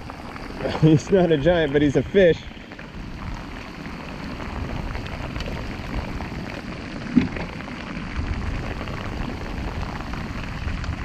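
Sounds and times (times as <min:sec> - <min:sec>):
steady rain falling: 0:00.0 - 0:11.0
wind rumbling on microphone: 0:00.0 - 0:11.0.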